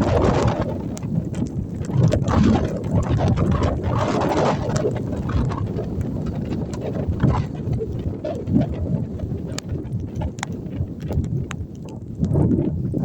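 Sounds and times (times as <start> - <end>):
wind buffeting microphone: 0.0 - 13.0
small clicks and knocks: 0.3 - 8.8, 9.4 - 13.0.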